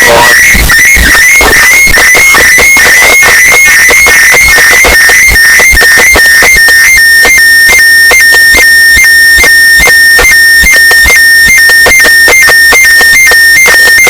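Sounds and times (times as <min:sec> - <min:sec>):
electronic beat of sharp hits: 0:00.0 - 0:14.0
high synthesized tone: 0:00.0 - 0:14.0.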